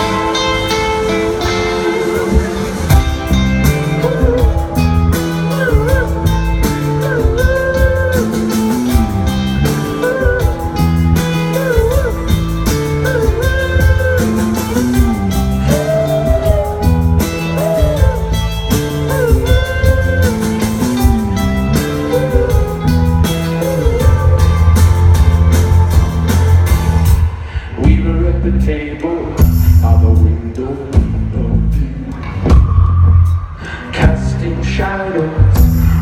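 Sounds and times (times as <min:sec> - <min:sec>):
live rock band playing: 0:00.0 - 0:28.7, 0:29.3 - 0:36.0.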